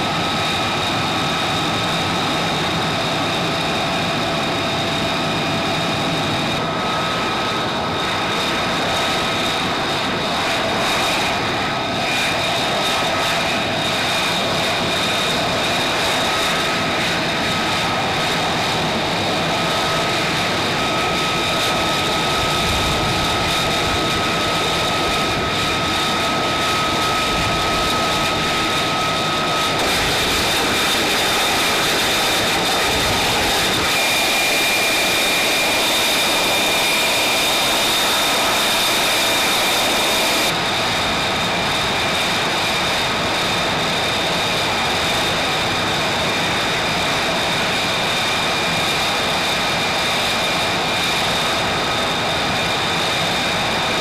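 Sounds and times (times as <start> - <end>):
jet engine running: 0.0 - 54.0.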